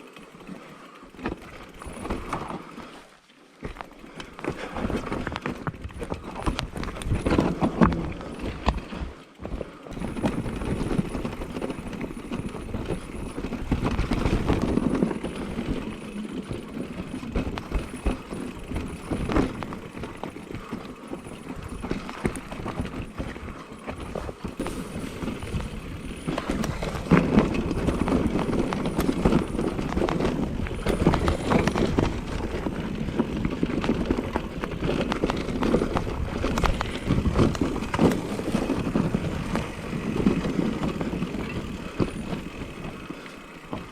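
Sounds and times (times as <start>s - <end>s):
bike chain and suspension rattling: 0.0s - 3.0s, 3.6s - 43.9s
bike tyres rolling and skidding: 0.0s - 43.9s.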